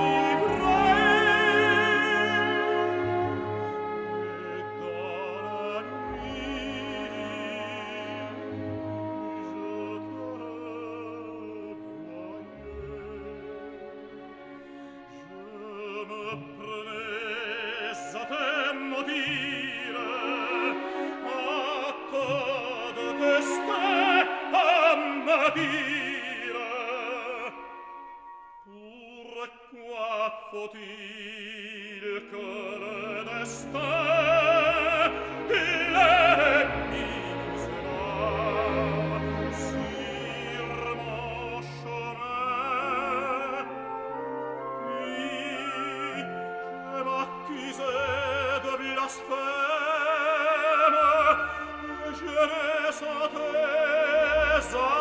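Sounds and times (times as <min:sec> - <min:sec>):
opera singer with vibrato: 0:00.0 - 0:08.4, 0:15.2 - 0:27.9, 0:28.6 - 0:44.0, 0:44.6 - 0:55.0
instrumental accompaniment: 0:00.0 - 0:29.2, 0:32.4 - 0:55.0.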